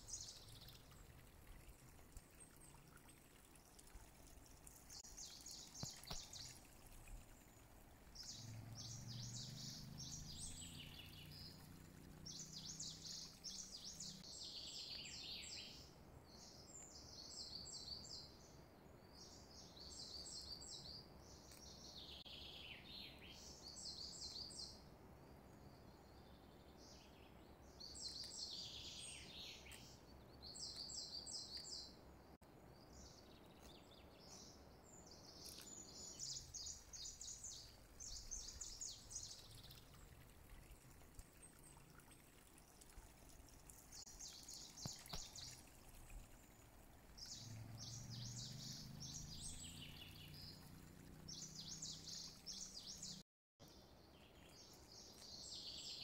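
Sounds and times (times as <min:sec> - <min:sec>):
faint bird chirping: 0:00.0 - 0:56.0
low steady background noise: 0:00.0 - 0:56.0.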